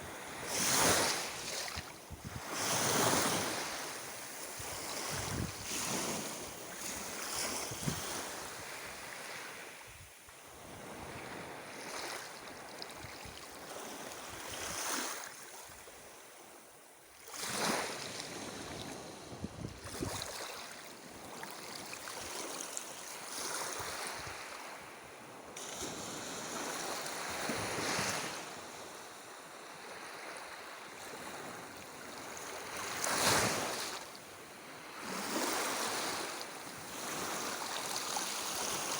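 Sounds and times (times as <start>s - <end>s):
sea waves breaking on shore: 0.0s - 16.4s, 17.2s - 38.9s.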